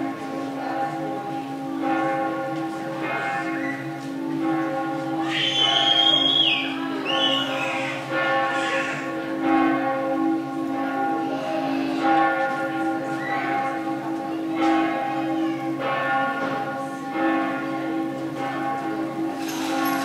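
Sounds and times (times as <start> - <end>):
bells ringing: 0.0 - 20.0.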